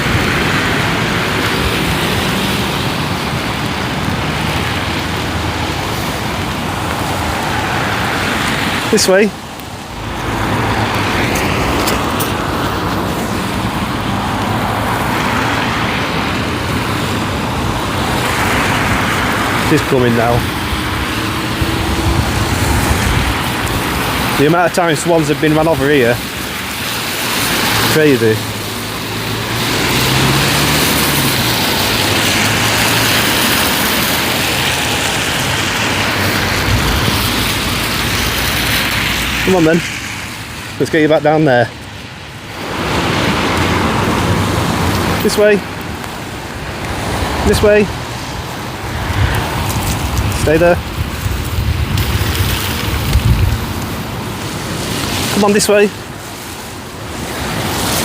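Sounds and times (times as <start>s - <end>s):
tyres hissing on road: 0.0s - 58.0s
vehicles driving past: 0.0s - 58.0s.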